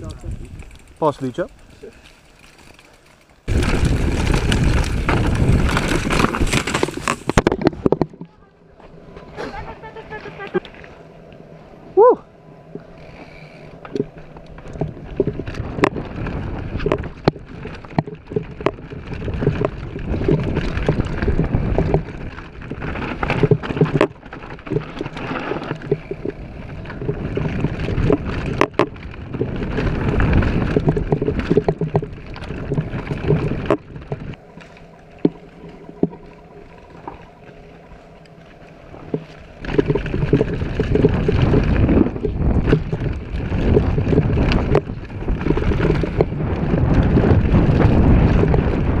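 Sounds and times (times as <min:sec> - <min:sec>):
wind buffeting microphone: 0:00.0 - 0:02.0, 0:03.4 - 0:08.2, 0:12.9 - 0:38.1, 0:38.8 - 0:49.0
bike knocks and rattles: 0:00.0 - 0:08.5, 0:12.8 - 0:37.6, 0:38.9 - 0:49.0
bike tyres rumbling over stones: 0:00.0 - 0:49.0.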